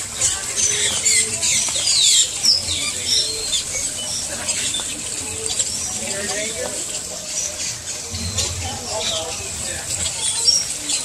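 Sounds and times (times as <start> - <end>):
fountain splashing: 0.0 - 11.0
small birds chirping: 0.0 - 11.0.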